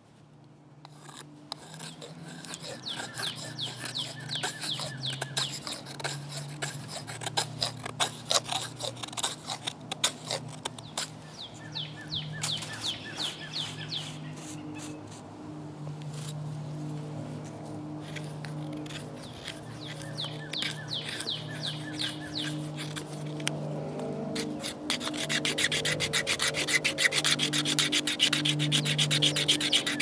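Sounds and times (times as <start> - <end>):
blade scraping wooden stick: 0.8 - 15.3, 16.0 - 30.0.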